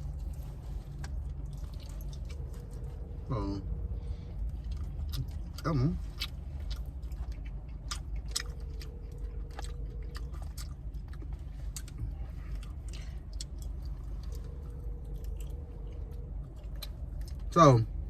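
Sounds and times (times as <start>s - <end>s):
low hum: 0.0s - 18.0s
person chewing and crunching: 0.0s - 18.0s.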